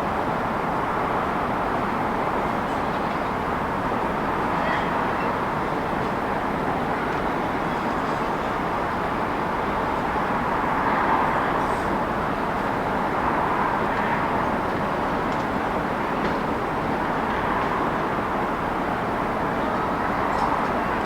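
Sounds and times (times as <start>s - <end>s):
city traffic noise: 0.0s - 21.0s.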